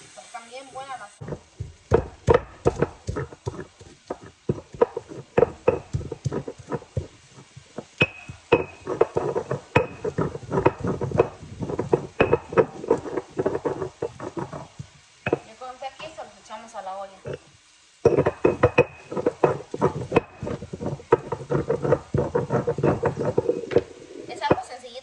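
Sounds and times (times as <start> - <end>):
stone pestle pounding and grinding: 1.2 - 16.2, 17.2 - 24.8.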